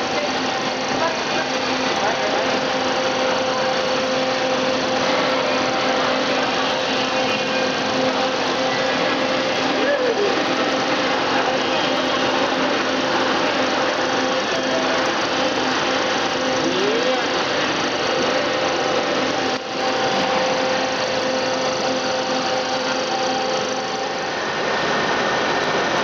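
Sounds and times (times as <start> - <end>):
rice milling machine running: 0.0 - 26.0.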